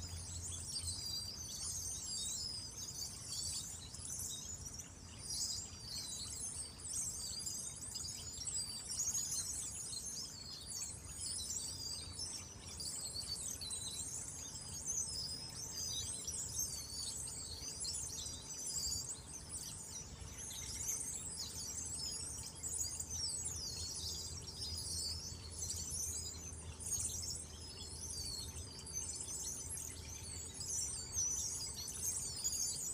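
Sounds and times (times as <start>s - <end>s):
small birds twittering: 0.0s - 32.9s.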